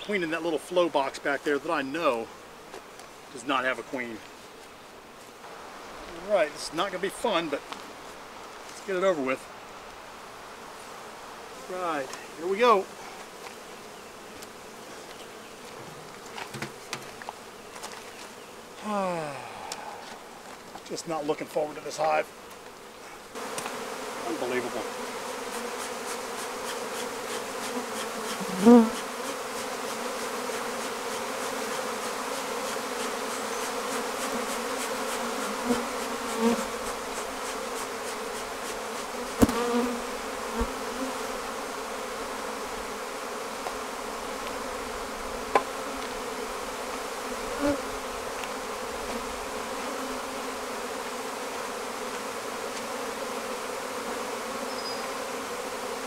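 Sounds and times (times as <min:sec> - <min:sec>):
bee colony buzzing: 0:00.0 - 0:56.0
single bee buzzing past: 0:01.8 - 0:20.8, 0:21.6 - 0:56.0.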